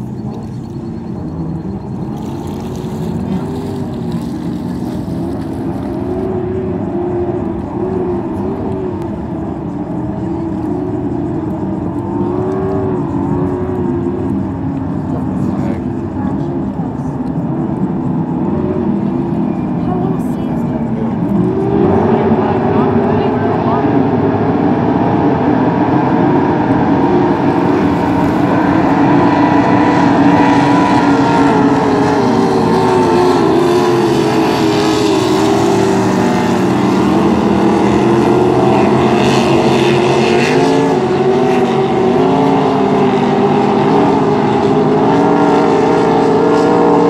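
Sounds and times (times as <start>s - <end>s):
racing powerboat engines: 0.0s - 47.0s.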